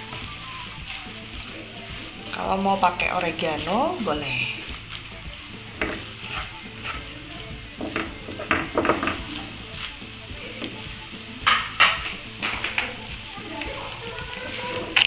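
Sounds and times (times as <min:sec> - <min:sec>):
light sizzle of frying pasta: 0:00.0 - 0:15.0
spatula scraping frying pan: 0:00.0 - 0:15.0.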